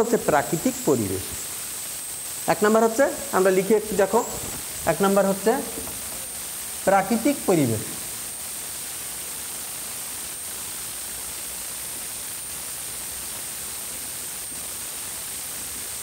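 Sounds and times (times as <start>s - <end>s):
background hiss: 0.0s - 16.0s
faint high-pitched whine: 0.0s - 16.0s.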